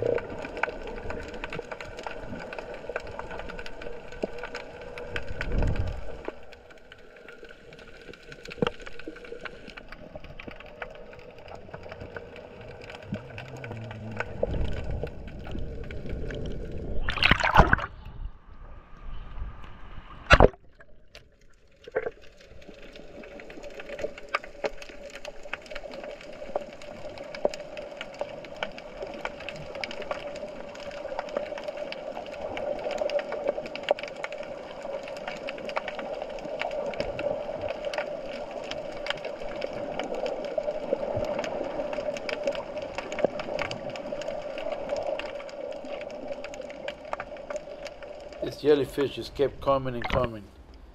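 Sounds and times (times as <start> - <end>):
small crackling clicks: 0.0 - 17.0, 20.3 - 50.9
underwater hum and hiss: 0.0 - 50.9.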